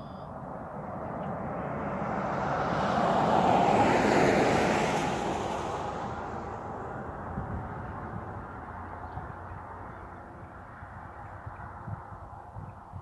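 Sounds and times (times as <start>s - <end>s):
pickup truck passing by: 0.3s - 11.9s.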